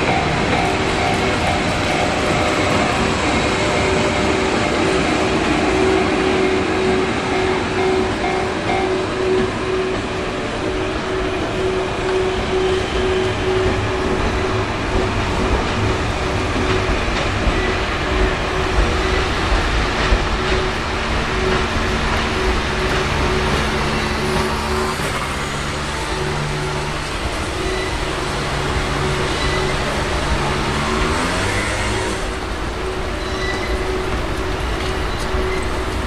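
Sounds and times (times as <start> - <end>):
level-crossing alarm bell: 0.0 - 36.0
train rumbling: 0.0 - 36.0
wheels clattering on rails: 0.0 - 36.0.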